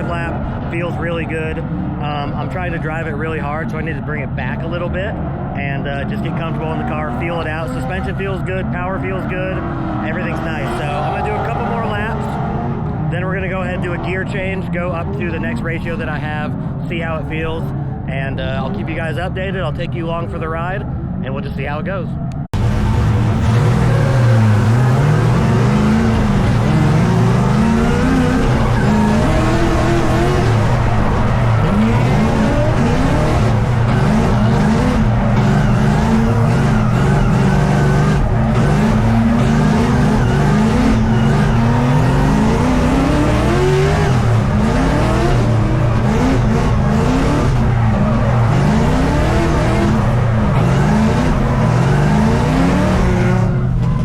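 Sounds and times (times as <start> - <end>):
tires squealing: 0.0 - 19.7, 20.3 - 54.0
car engine revving: 0.0 - 54.0.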